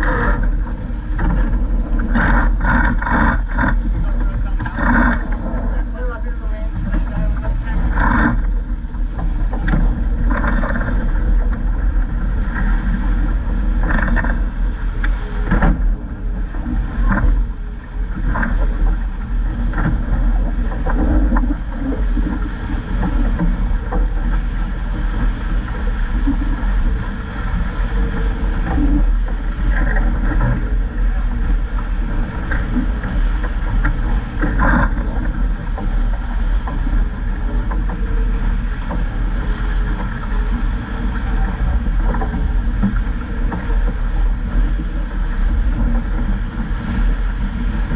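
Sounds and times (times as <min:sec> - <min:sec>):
water rushing past hull: 0:00.0 - 0:47.9
water splashing against bow: 0:00.0 - 0:47.9
wind buffeting microphone: 0:00.0 - 0:47.9.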